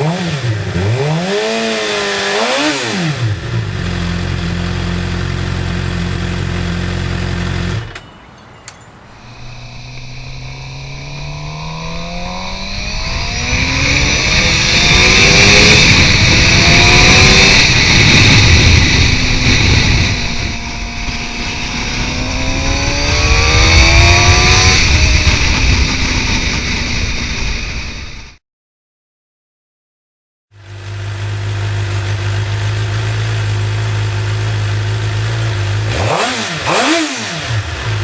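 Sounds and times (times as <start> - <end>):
motorcycle engine accelerating: 0.0 - 8.0, 9.1 - 28.4, 30.5 - 38.0.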